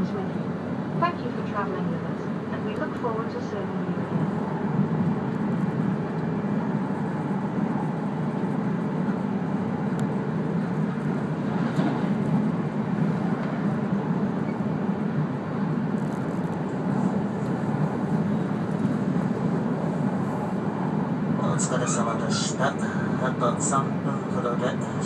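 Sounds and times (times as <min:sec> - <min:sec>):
passing train rush: 0:00.0 - 0:25.0
train wheels rumbling on rail: 0:00.0 - 0:25.0.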